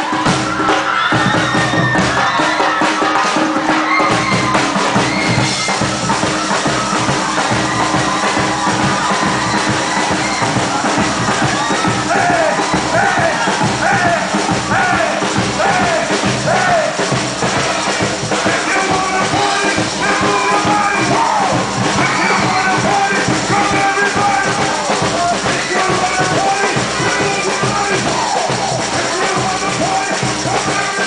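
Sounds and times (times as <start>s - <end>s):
samba percussion band drumming: 0.0s - 31.0s
deep bass drums: 3.6s - 31.0s.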